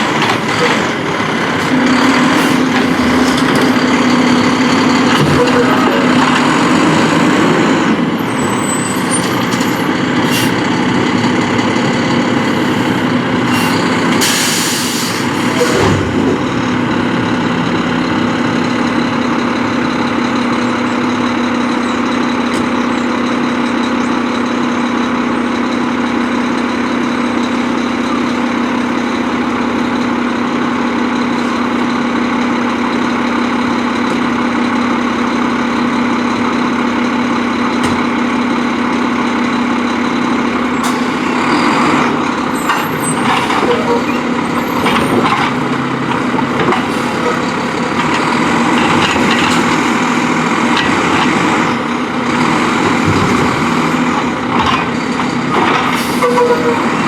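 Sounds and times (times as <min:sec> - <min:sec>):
garbage truck diesel engine idling: 0:00.0 - 0:57.0.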